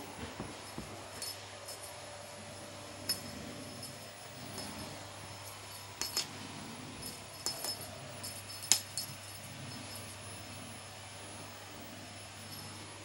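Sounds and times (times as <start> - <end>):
small bell jingling: 0.0 - 13.0.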